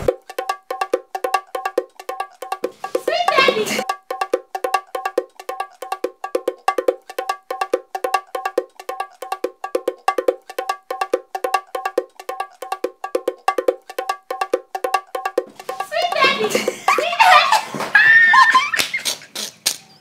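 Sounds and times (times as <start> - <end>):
cowbell-like metal percussion: 0.1 - 17.6.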